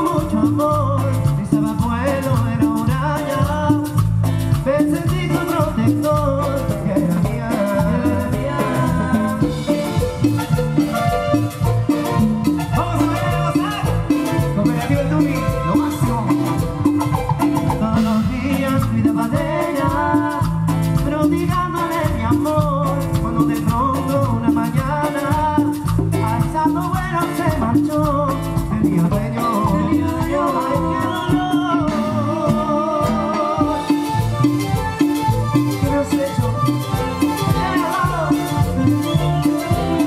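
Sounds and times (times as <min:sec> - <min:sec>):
salsa music: 0:00.0 - 0:40.0.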